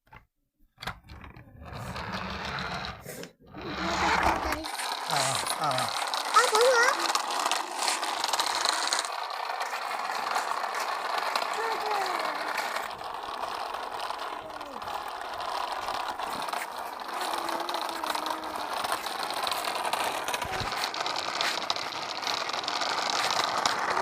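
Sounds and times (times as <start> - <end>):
toy car motor whirring: 0.9 - 24.0.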